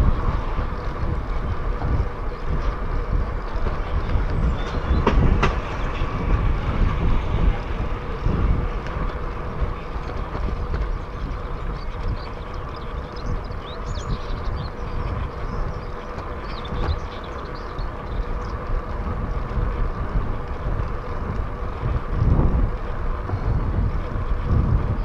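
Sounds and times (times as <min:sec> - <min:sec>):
birds chirping: 0:00.0 - 0:06.7, 0:07.3 - 0:22.2
bicycle tyre rumble: 0:00.0 - 0:25.0
wind buffeting microphone: 0:00.0 - 0:25.0.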